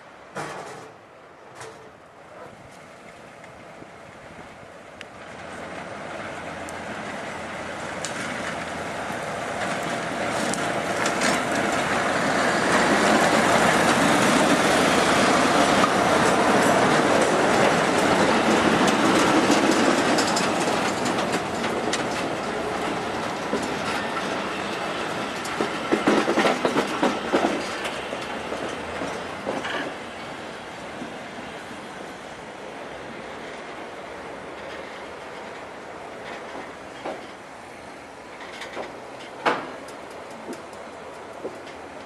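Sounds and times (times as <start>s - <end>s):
diesel locomotive engine: 0.0s - 42.0s
train wheels rolling: 0.2s - 42.0s
wheels clacking over rail joints: 0.2s - 42.0s.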